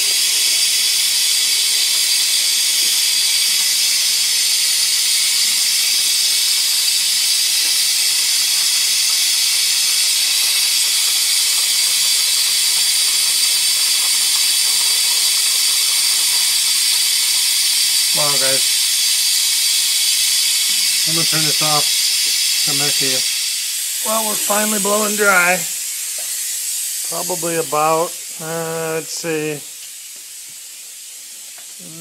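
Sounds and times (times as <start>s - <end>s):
compressed air hissing: 0.0s - 32.0s
water spitting from valve: 0.0s - 32.0s.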